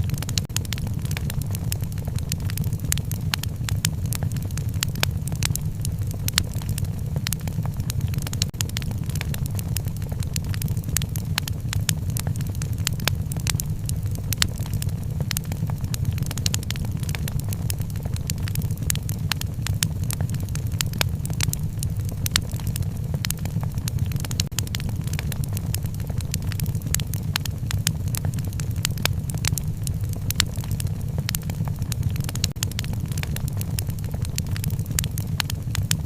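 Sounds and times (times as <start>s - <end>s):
low roar of burning: 0.0s - 36.0s
wood fire crackling: 0.0s - 36.0s.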